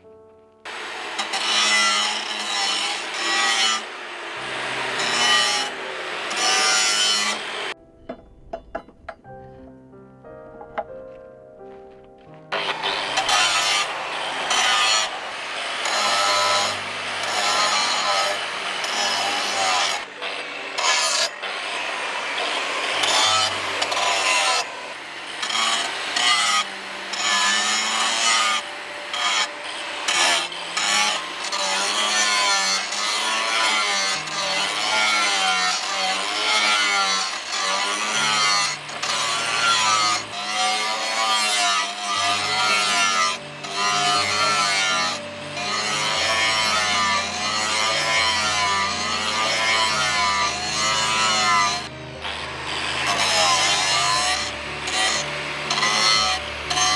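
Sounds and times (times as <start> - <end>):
file scraping steel: 0.7 - 7.8, 12.6 - 56.9.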